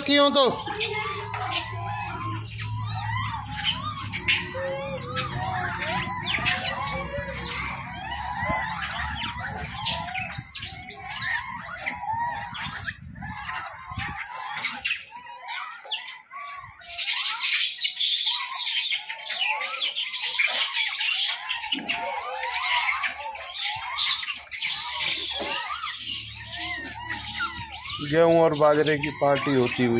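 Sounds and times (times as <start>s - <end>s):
animals chirping and squealing: 0.0s - 29.9s.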